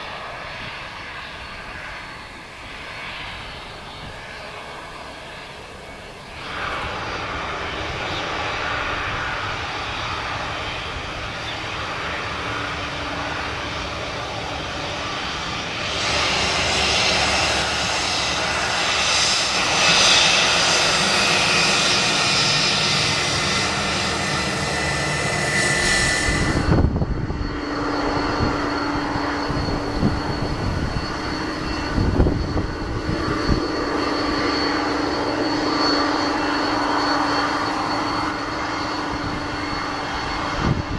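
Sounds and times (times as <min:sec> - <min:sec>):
jet engines idling whine: 0:00.0 - 0:40.9.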